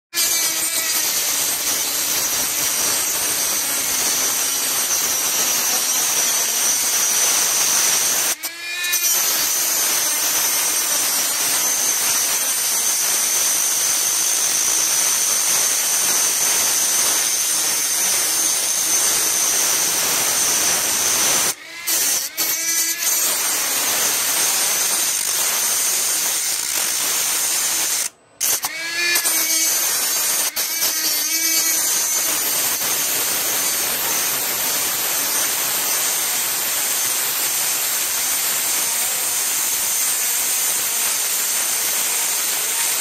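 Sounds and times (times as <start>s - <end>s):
rotary grinder whine: 0.2s - 43.0s.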